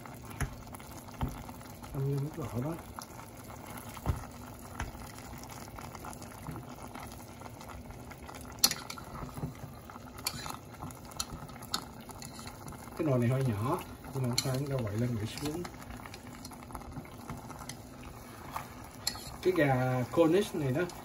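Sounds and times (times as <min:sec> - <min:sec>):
chicken simmering and bubbling: 0:00.0 - 0:21.0.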